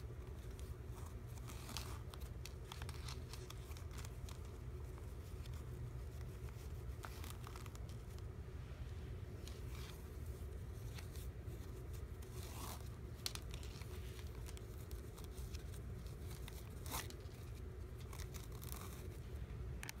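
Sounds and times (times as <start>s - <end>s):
shoelaces rustling and scraping: 0.0s - 8.4s, 9.2s - 20.0s
steady low hum: 0.0s - 20.0s.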